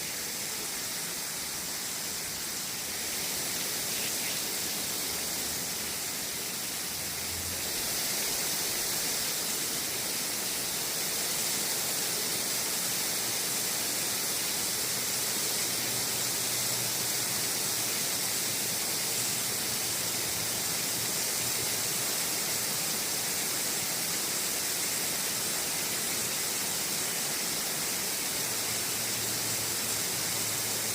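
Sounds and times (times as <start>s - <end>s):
garden hose spraying water: 0.0s - 30.9s.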